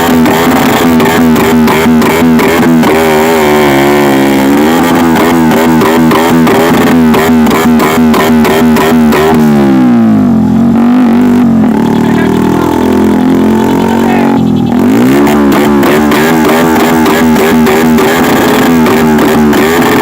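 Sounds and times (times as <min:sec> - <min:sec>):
exhaust misfiring and popping: 0:00.0 - 0:20.0
motorcycle engine revving: 0:00.0 - 0:20.0.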